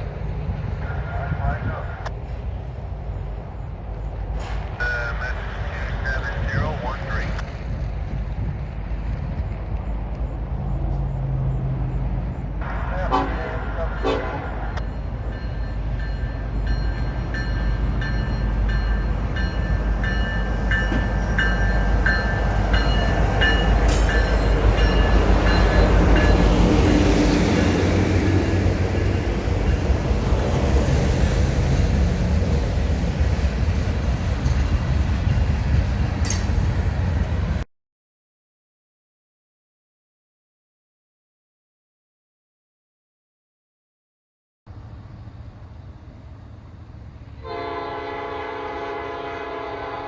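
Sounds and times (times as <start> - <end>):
train rumbling past: 0.0 - 37.7, 44.7 - 50.0.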